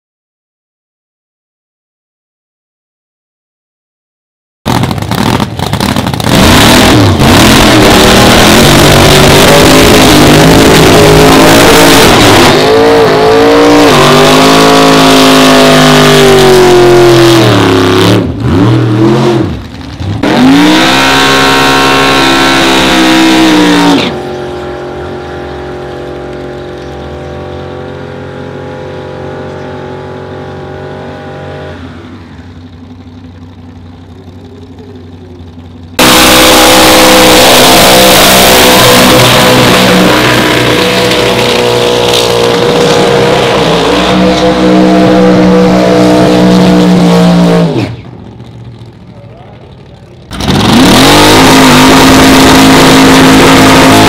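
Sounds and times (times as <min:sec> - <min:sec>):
drag racing car engine revving: 0:04.7 - 0:54.0.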